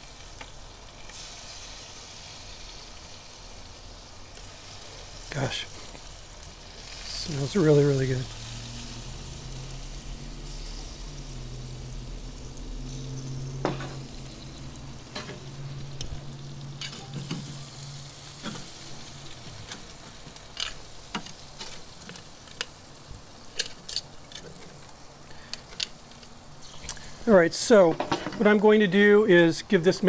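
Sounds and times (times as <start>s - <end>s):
meat sizzling on a grill: 0.0s - 30.0s.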